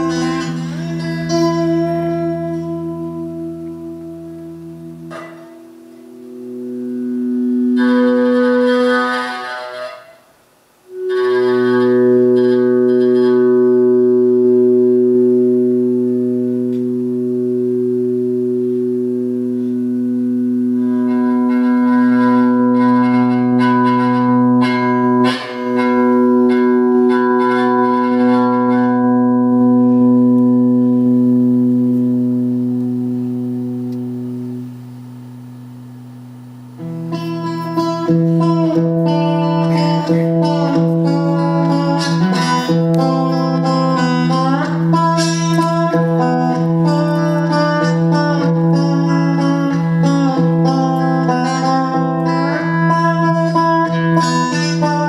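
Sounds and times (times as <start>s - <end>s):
guitar drone through effects: 0.0s - 55.0s
shimmering guitar notes: 0.0s - 55.0s.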